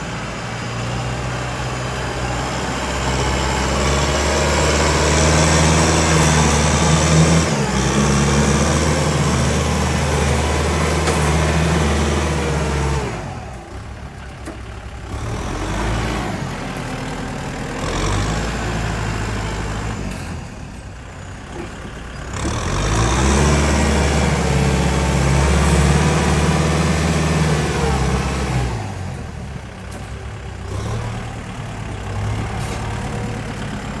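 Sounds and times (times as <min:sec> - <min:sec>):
heavy diesel engine under load: 0:00.0 - 0:34.0.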